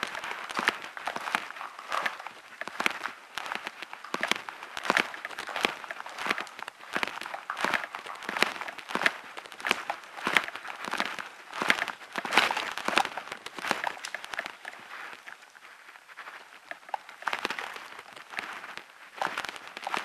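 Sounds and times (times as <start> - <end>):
footsteps crunching on tunnel floor: 0.0 - 20.0.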